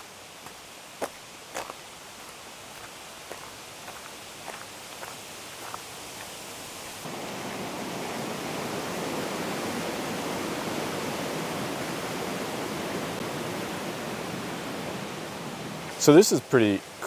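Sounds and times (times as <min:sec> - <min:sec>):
rushing flowing water: 0:00.0 - 0:17.0.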